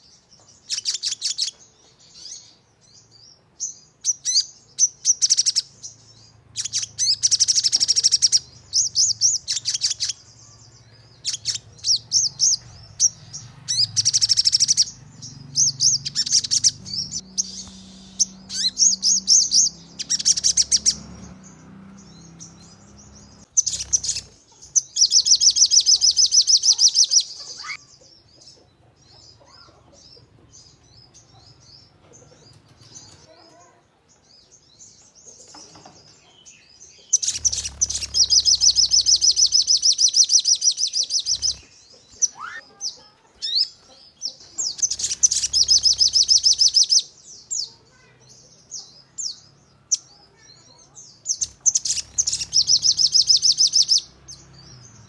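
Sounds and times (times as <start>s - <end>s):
soft bird chirps: 0.0s - 55.0s
bird singing trilled bursts: 0.6s - 28.0s, 37.0s - 48.2s, 49.2s - 55.0s.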